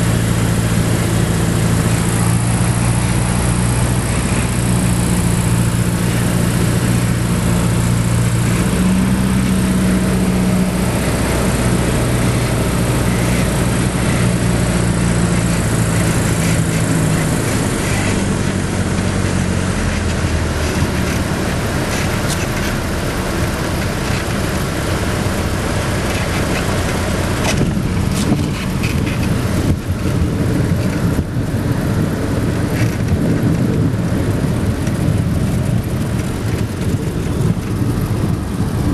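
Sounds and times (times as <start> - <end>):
bumps and rattles: 0.0 - 38.9
light aircraft engine: 0.0 - 38.9.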